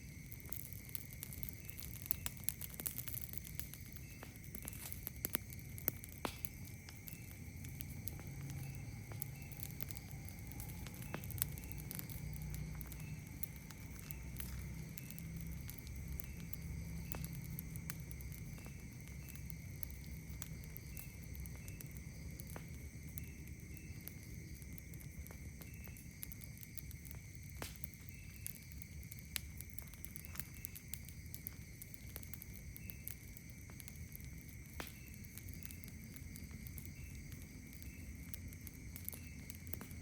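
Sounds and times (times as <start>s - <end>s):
campfire crackling and popping: 0.0s - 40.0s
insects droning: 0.0s - 40.0s
short insect chirp: 0.0s - 40.0s.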